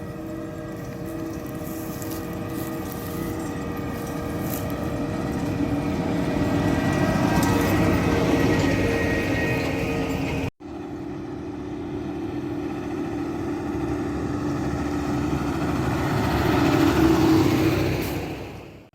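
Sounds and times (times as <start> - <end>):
machine engine: 0.0 - 18.0
diesel engine running: 0.0 - 18.9.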